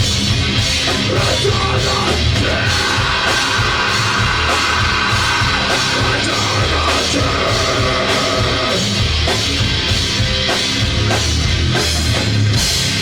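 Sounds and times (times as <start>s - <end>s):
drum kit beat: 0.0s - 13.0s
heavy bass: 0.0s - 13.0s
live rock band playing: 0.0s - 13.0s.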